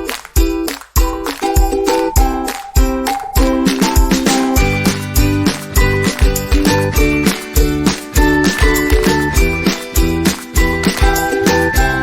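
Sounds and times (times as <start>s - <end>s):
upbeat music with bell-like melody: 0.0s - 12.0s.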